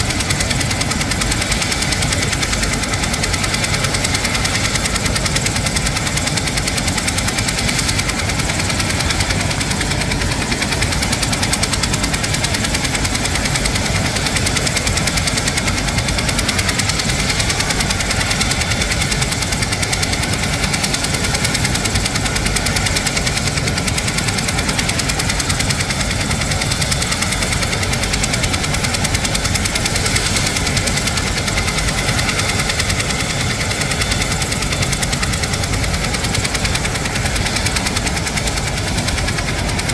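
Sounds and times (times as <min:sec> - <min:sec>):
helicopter rotor blades beating: 0:00.0 - 0:39.9
turbine whine: 0:00.0 - 0:39.9.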